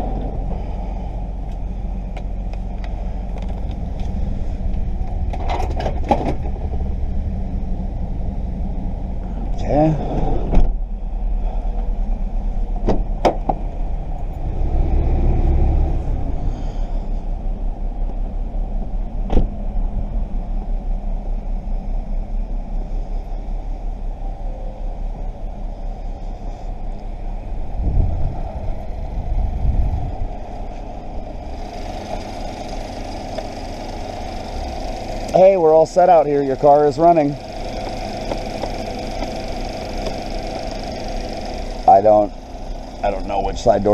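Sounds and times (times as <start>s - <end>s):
car engine idling: 0.0s - 43.9s
low rumble: 0.0s - 43.9s.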